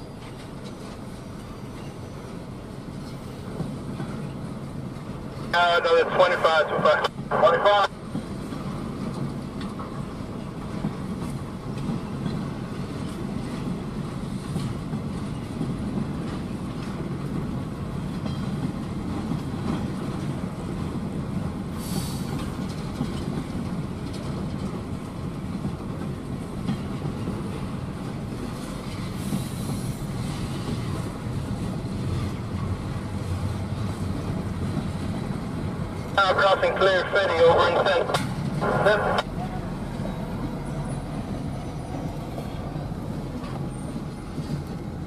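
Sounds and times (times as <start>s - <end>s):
diesel locomotive: 0.0s - 45.0s
train cars rumbling: 0.0s - 45.0s.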